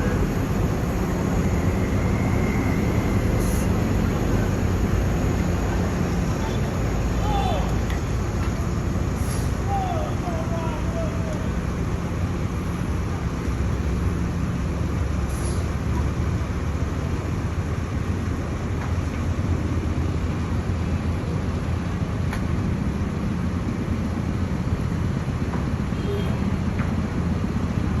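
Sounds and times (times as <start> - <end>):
heavy engine rumbling: 0.0 - 27.9.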